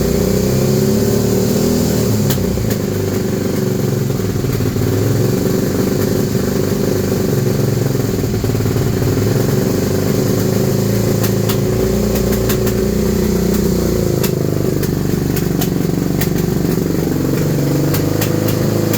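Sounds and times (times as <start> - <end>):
engine backfire pops: 0.0 - 18.9
motorcycle engine idling unevenly: 0.0 - 18.9.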